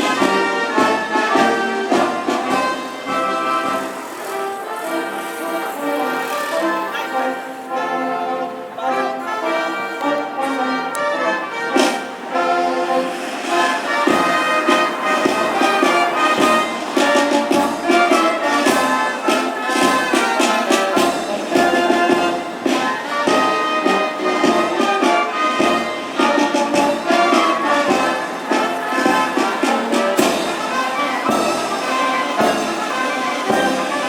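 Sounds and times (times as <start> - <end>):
brass band playing: 0.0 - 34.0.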